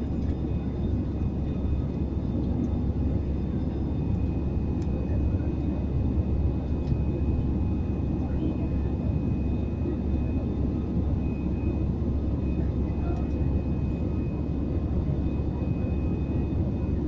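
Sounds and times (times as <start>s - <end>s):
airliner engine and airflow rumble: 0.0s - 17.0s.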